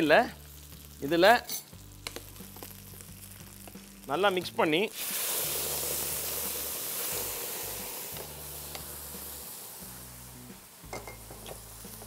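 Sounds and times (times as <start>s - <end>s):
sauce hissing in hot oil: 0.0s - 12.0s.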